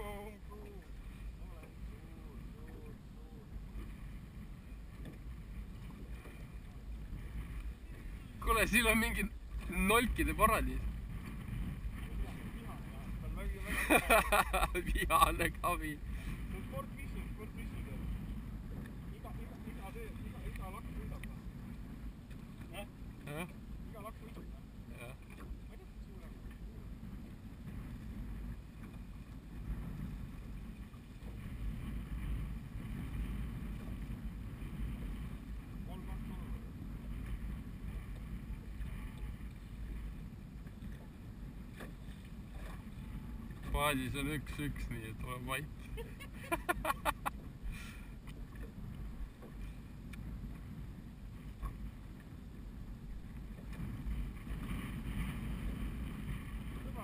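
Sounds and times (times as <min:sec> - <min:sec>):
waves lapping against hull: 0:00.0 - 0:57.0
wind buffeting microphone: 0:00.0 - 0:57.0.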